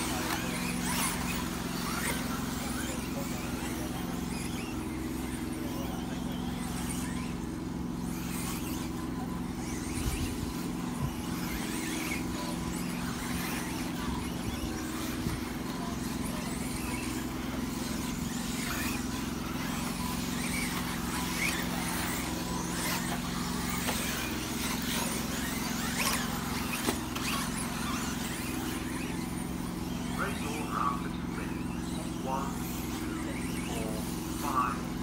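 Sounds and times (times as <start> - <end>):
rc car motor whines: 0.0 - 35.0
steady low hum: 0.0 - 35.0.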